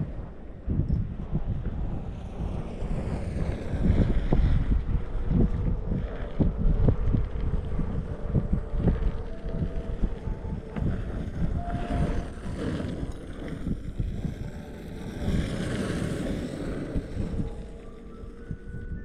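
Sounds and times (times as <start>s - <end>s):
skateboard wheels rolling on asphalt: 0.0s - 19.0s
wind buffeting microphone: 0.0s - 19.0s.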